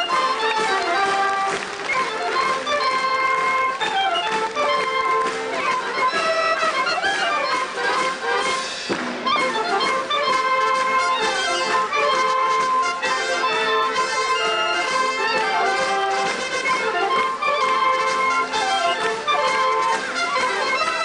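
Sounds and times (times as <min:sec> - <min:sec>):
wind band playing a march: 0:00.0 - 0:21.0.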